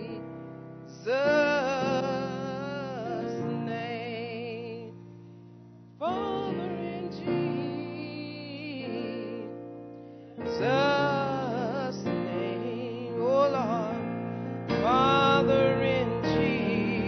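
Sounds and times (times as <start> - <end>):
slow church music: 0.0 - 17.0.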